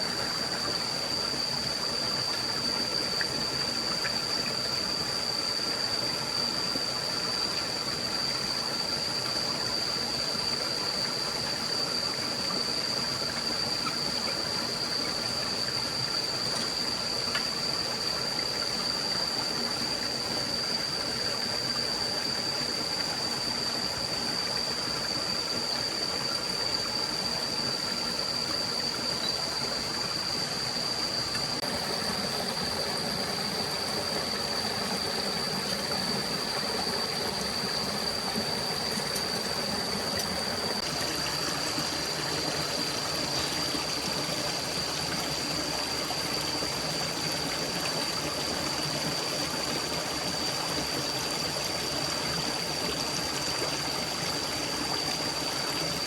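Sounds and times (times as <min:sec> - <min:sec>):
high-pitched whine: 0:00.0 - 0:47.4
stream flowing: 0:00.0 - 0:56.0.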